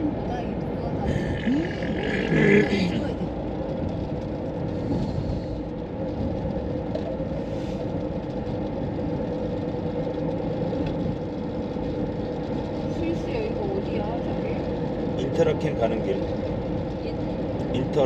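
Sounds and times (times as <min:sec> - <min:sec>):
road noise: 0:00.0 - 0:18.0
van engine drone: 0:00.0 - 0:18.0.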